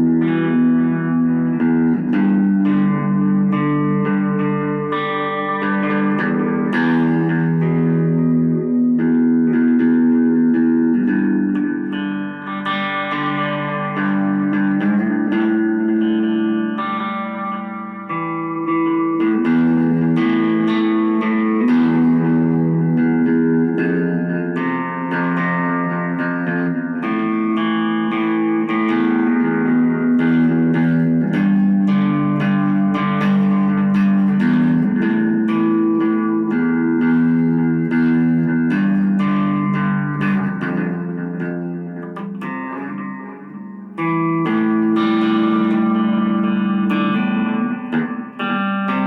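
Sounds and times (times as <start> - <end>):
instrumental music with held chords: 0.0 - 49.0
plucked guitar notes: 0.0 - 49.0.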